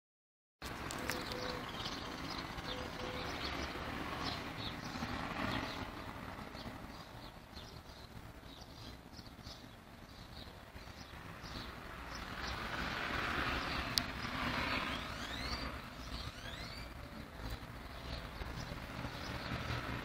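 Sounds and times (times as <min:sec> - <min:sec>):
small birds chirping: 0:00.6 - 0:20.0.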